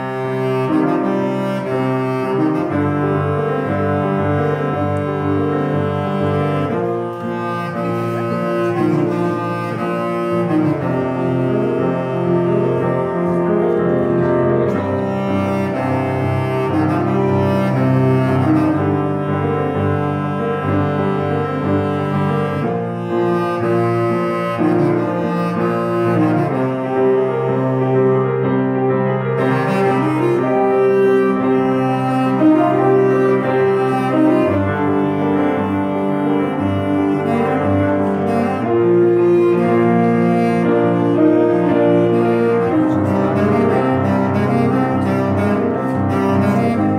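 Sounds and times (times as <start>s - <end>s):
bass clarinet melody: 0.0s - 46.9s
piano chords: 0.0s - 46.9s.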